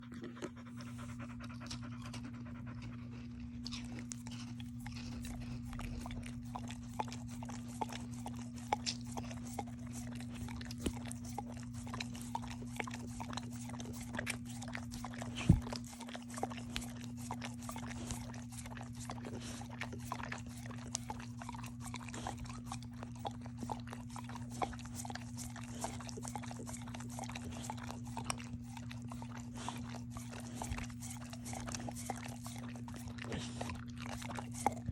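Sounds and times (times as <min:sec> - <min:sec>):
dog chewing and licking: 0:00.0 - 0:34.9
steady low hum: 0:00.0 - 0:34.9.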